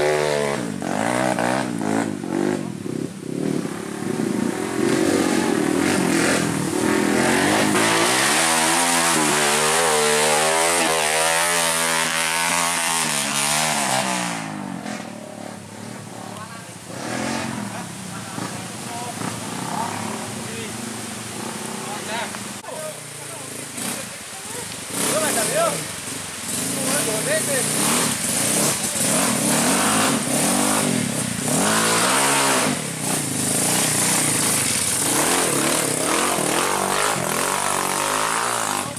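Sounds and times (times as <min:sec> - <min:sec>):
dirt bike engine revving: 0:00.0 - 0:16.2, 0:16.8 - 0:22.6, 0:24.8 - 0:38.9.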